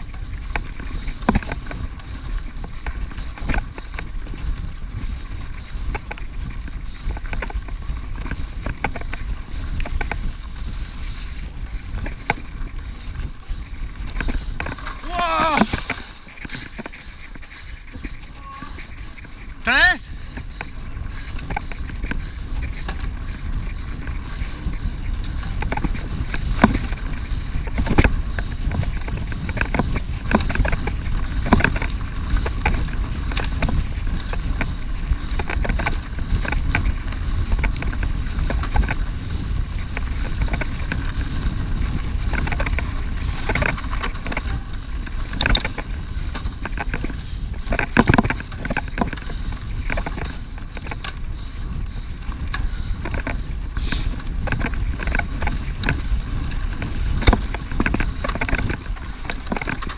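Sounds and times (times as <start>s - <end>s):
bike knocks and rattles: 0.0s - 59.9s
bike tyres rumbling on dirt: 0.0s - 59.9s
wind on microphone: 0.0s - 59.9s.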